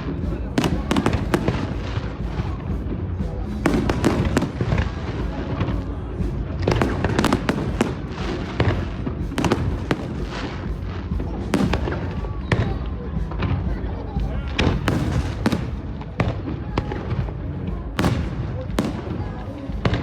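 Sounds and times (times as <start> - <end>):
continuous low rumble: 0.0 - 20.0
fireworks bangs and crackles: 0.0 - 20.0.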